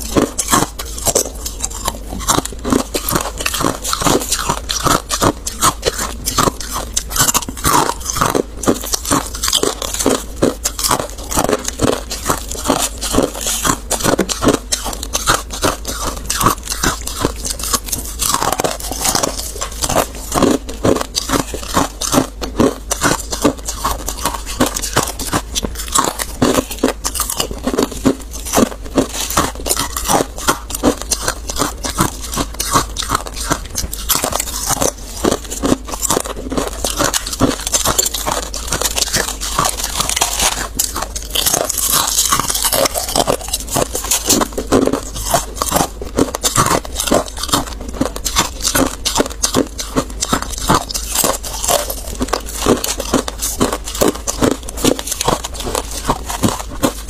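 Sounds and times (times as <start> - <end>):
ice being chewed crunching: 0.0 - 57.0.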